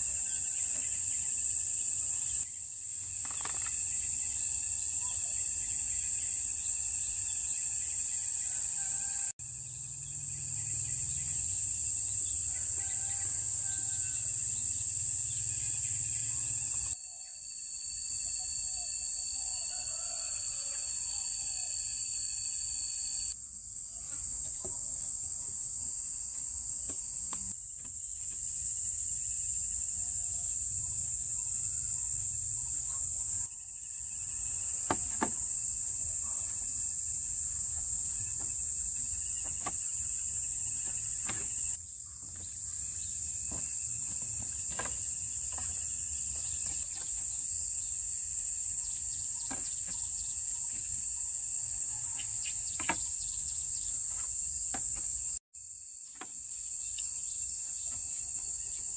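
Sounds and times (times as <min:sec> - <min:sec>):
insect chorus buzzing: 0:00.0 - 0:58.9.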